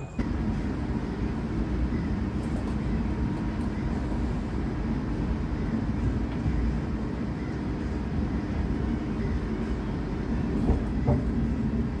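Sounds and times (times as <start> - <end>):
passenger train rumbling: 0.0 - 12.0.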